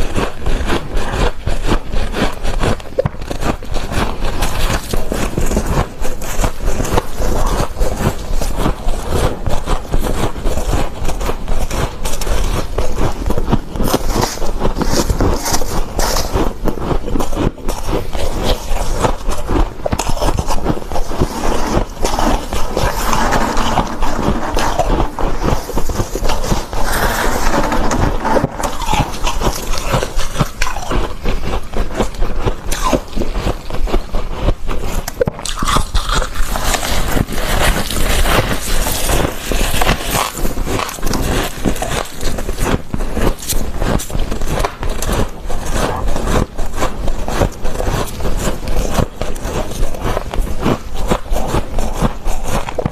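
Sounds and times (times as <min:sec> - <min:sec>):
frost being chewed and crunched: 0:00.0 - 0:52.9.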